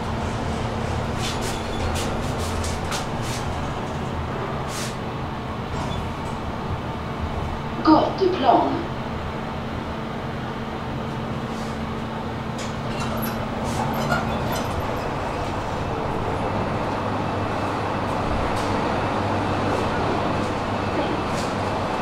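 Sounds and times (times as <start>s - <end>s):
elevator rumble and hum: 0.0s - 22.0s.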